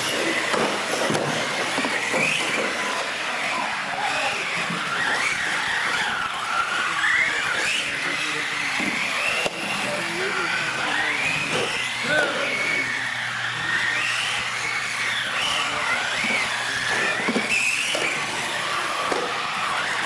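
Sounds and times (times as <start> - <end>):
toy car motors whining: 0.0 - 20.0.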